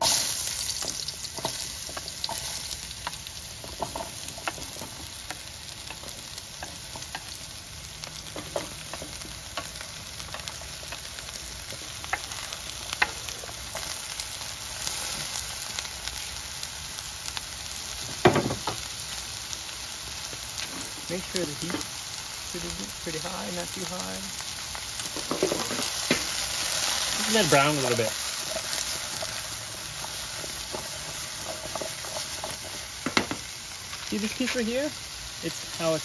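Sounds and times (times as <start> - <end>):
squash sizzling in hot oil: 0.0 - 36.0.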